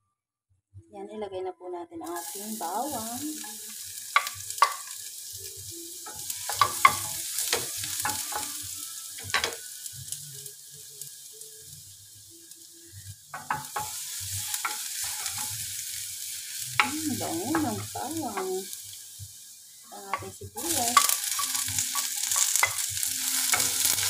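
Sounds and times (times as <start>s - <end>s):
garlic sizzling in oil: 2.0s - 24.0s.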